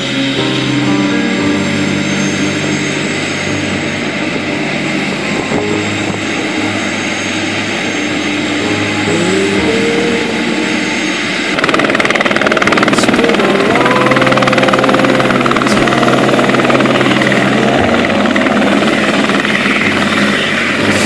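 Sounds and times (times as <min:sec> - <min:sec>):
helicopter turbine and rotor: 0:00.0 - 0:21.0.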